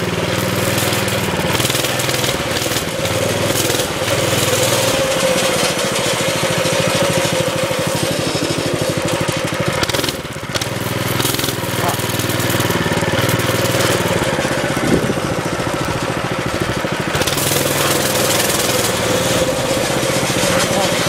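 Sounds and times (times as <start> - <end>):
mini bike engine running: 0.0 - 21.0.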